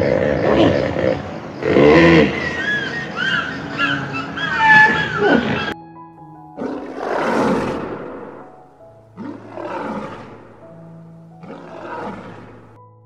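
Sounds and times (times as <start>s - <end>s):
animal roaring: 0.0s - 5.8s, 6.6s - 12.8s
soft background music: 0.0s - 13.0s.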